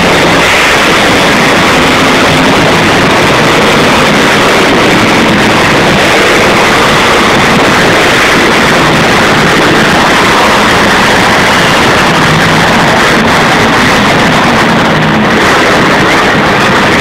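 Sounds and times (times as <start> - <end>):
loud truck engines running: 0.0 - 17.0.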